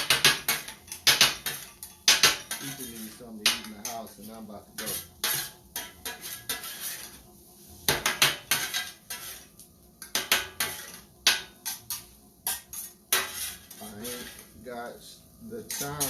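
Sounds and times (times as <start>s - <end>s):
metal spatulas clanking on griddle: 0.0s - 4.2s, 4.8s - 7.2s, 7.9s - 14.5s, 15.6s - 16.0s.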